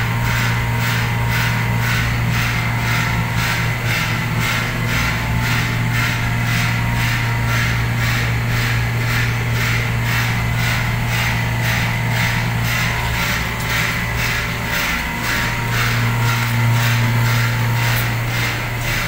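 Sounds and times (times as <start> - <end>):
machine humming with swishing pulse: 0.0 - 19.0.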